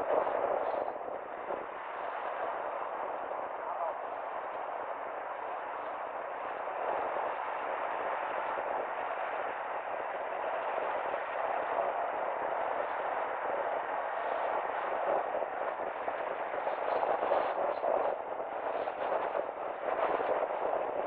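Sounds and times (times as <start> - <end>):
car tyre and wind noise: 0.0 - 21.0.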